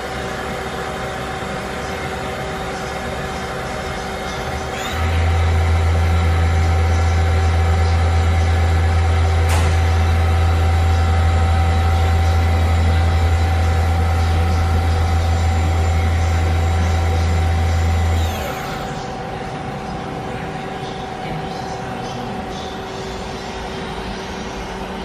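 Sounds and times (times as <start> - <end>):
lathe low hum: 0.0 - 25.0
machine whine: 0.0 - 25.0.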